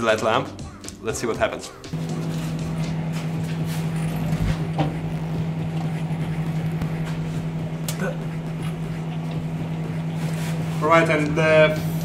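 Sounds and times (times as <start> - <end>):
microwave oven humming: 1.9 - 12.0.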